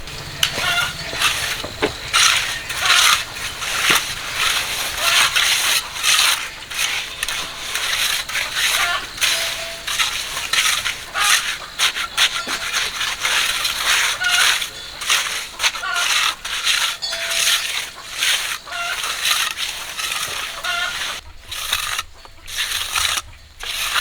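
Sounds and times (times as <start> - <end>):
tool scraping concrete mix: 0.0 - 24.0.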